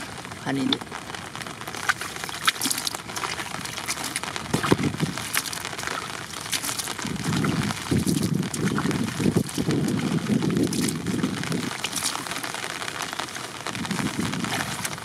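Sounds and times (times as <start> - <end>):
fish flapping and splashing in bucket: 1.7 - 13.4, 14.1 - 15.0.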